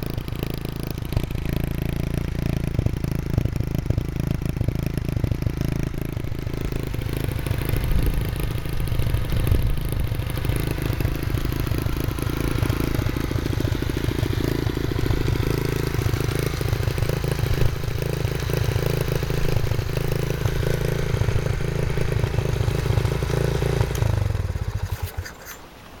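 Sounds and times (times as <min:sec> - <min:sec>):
small motorcycle engine running: 0:00.0 - 0:25.8.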